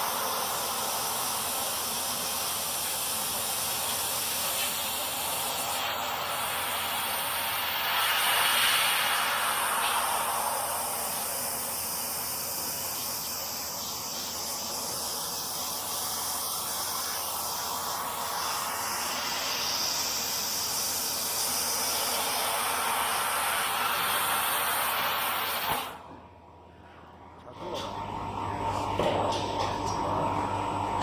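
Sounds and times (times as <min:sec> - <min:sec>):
laser cutter gas jet hissing: 0:00.0 - 0:26.0.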